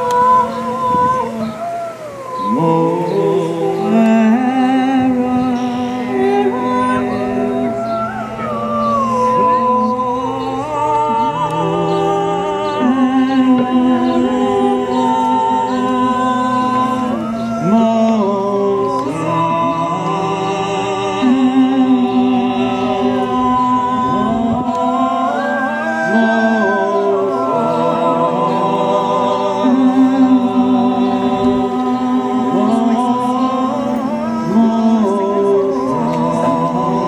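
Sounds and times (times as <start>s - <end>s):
voices singing in harmony: 0.0s - 37.0s.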